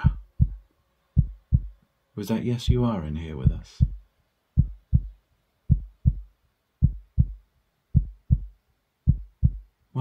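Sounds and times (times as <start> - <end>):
heartbeat double thumps: 0.0 - 0.6, 1.2 - 1.8, 2.6 - 9.8.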